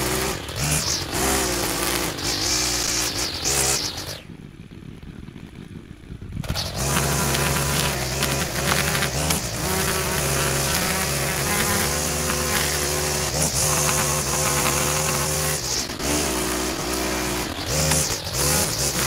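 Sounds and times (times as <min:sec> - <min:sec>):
small gas engine buzzing: 0:00.0 - 0:19.0.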